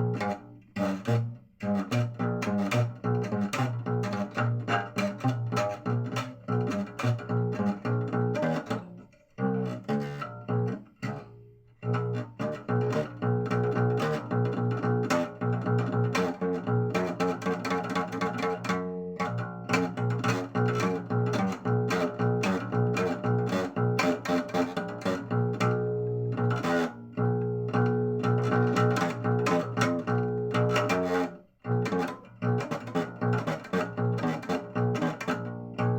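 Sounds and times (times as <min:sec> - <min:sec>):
plucked string music: 0:00.0 - 0:35.9.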